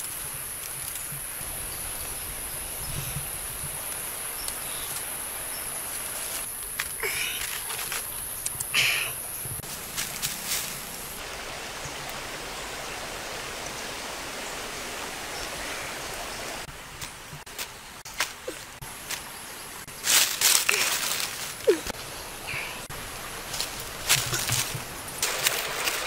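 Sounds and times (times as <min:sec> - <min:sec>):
outdoor hiss: 0:00.0 - 0:26.0.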